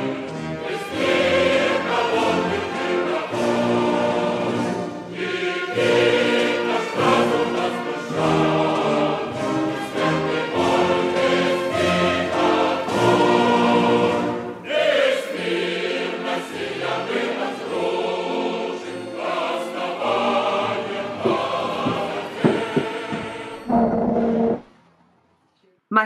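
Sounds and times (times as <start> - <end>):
choir singing held chords: 0.0 - 24.6.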